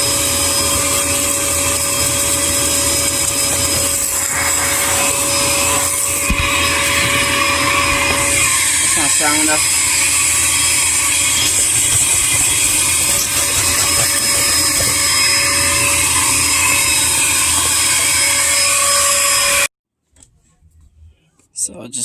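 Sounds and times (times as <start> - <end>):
vacuum cleaner motor whine: 0.0 - 19.7.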